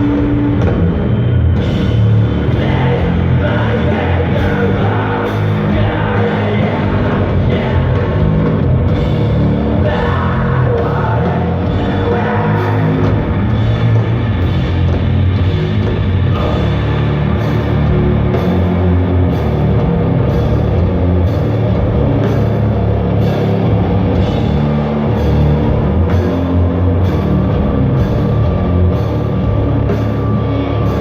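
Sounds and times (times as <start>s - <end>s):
doom metal band playing live: 0.0s - 31.0s.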